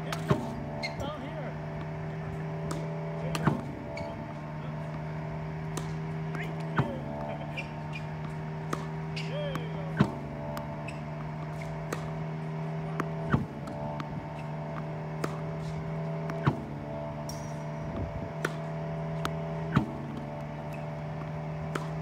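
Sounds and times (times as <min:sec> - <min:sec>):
ball machine motor humming: 0:00.0 - 0:22.0
tennis balls struck and bouncing: 0:00.0 - 0:22.0.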